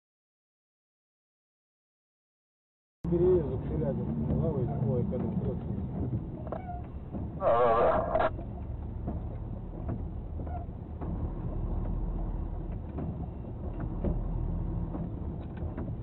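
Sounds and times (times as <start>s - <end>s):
vehicle engine and road rumble: 3.0s - 16.0s.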